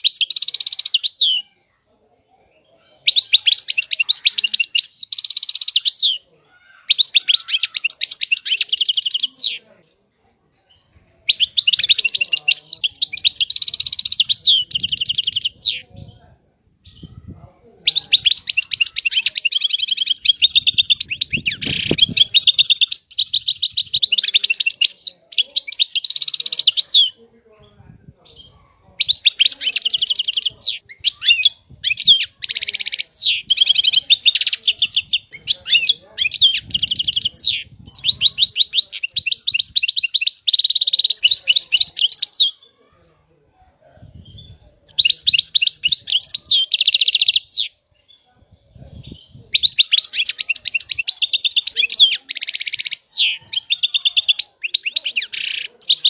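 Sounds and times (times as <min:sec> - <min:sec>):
finch twittering and trilling: 0:00.0 - 0:01.5, 0:03.0 - 0:09.6, 0:10.6 - 0:16.2, 0:16.8 - 0:42.9, 0:44.2 - 0:48.2, 0:49.0 - 0:56.0.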